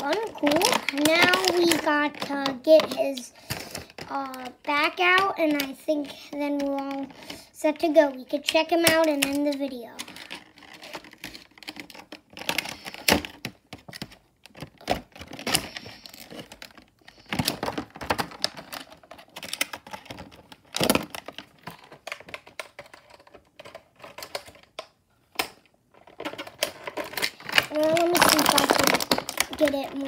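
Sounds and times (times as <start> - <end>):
plastic packaging crinkling: 0.0 - 7.5, 8.4 - 30.0.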